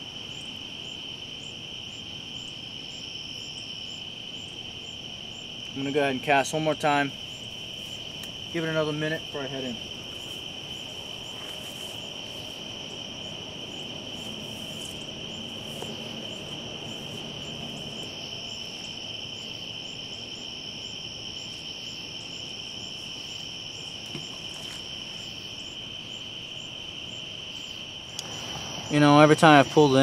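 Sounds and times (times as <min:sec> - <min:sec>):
faint insect chirps: 0:00.0 - 0:30.0
insects trilling: 0:00.0 - 0:30.0.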